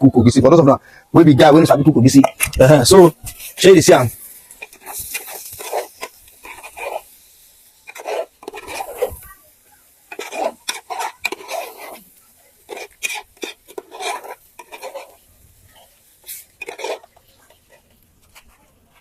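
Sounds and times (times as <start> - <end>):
spoon scraping a cooking pot: 2.1 - 9.4, 10.1 - 19.0.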